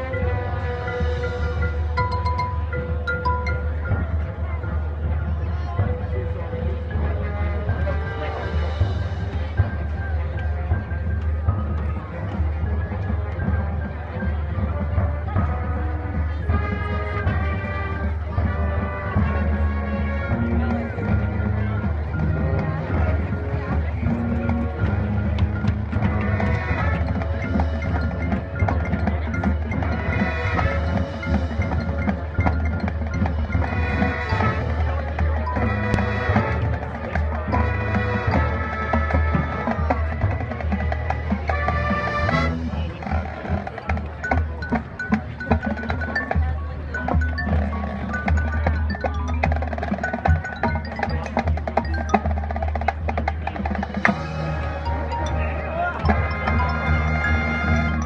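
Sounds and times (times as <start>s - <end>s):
marching band playing: 0.0s - 58.0s
marimba and bells: 0.0s - 58.0s.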